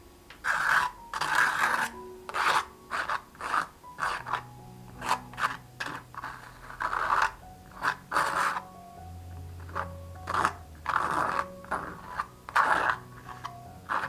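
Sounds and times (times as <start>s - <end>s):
palette knife scraping paint on canvas: 0.4s - 8.6s, 9.6s - 14.0s.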